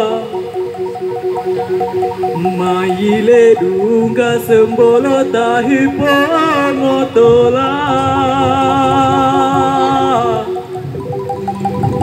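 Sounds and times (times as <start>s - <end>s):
music with singing voice: 0.0s - 12.0s.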